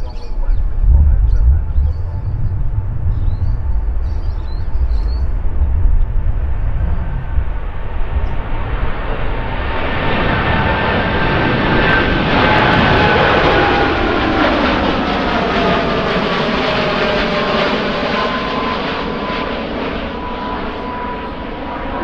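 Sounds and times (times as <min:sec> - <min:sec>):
jet airliner engines roaring past: 0:00.0 - 0:22.0.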